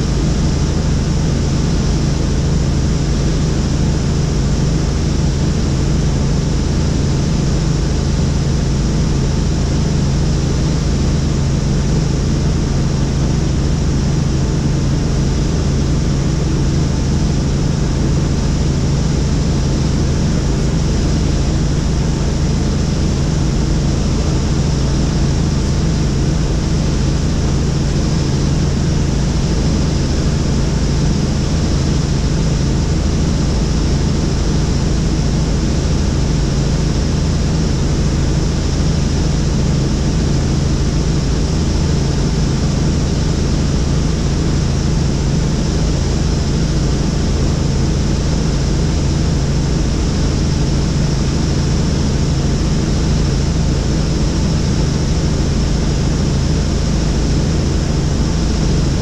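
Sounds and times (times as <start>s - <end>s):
helicopter engine and rotors drone: 0.0s - 59.0s
steady low hum: 0.0s - 59.0s.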